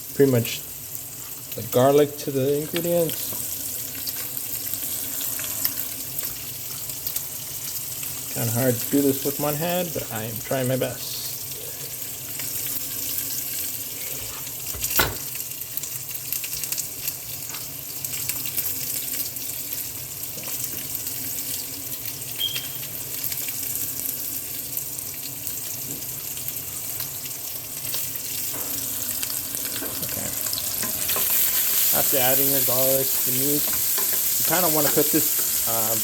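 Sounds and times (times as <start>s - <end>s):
meat sizzling in a frying pan: 0.0s - 36.0s.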